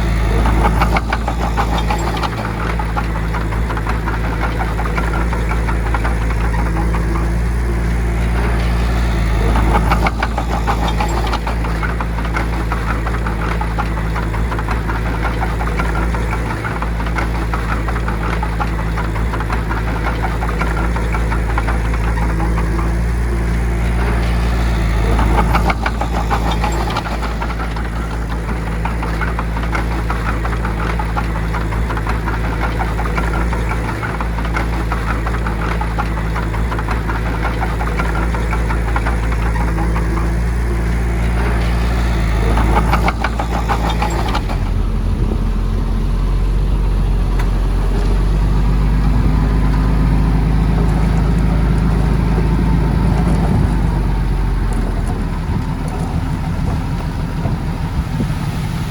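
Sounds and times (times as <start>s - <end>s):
diesel machinery engine drone: 0.0s - 58.9s
fast metallic clatter: 0.0s - 58.9s.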